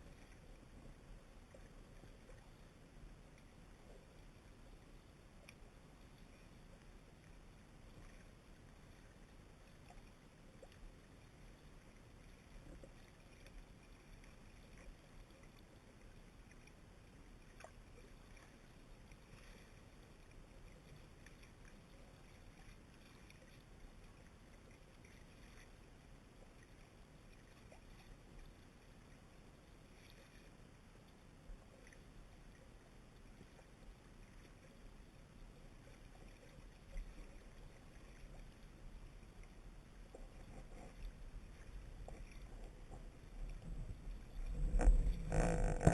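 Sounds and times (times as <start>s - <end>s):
faint underwater hiss and rumble: 0.0s - 45.9s.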